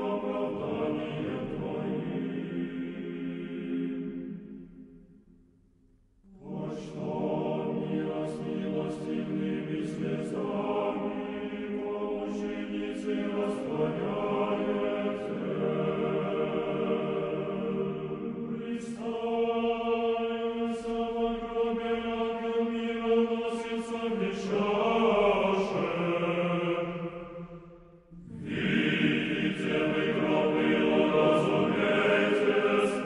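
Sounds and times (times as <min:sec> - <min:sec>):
choir singing sustained chant: 0:00.0 - 0:05.3, 0:06.2 - 0:33.0.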